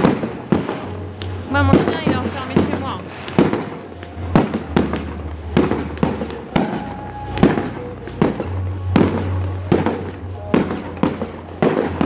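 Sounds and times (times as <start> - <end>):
fireworks bangs: 0.0 - 12.0
steady low rumble: 0.0 - 12.0.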